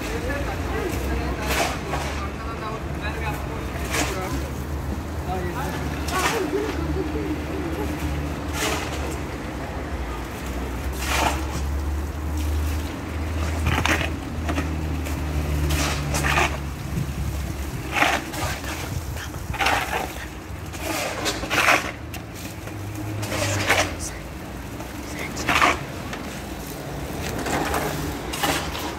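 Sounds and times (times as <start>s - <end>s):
shovels scraping concrete: 0.0s - 28.9s.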